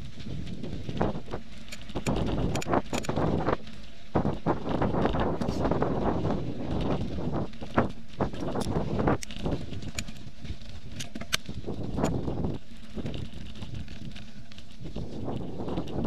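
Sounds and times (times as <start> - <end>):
bicycle tyres rumbling on gravel: 0.0 - 16.0
bike rattling over stones: 0.0 - 16.0
wind on microphone: 0.0 - 16.0.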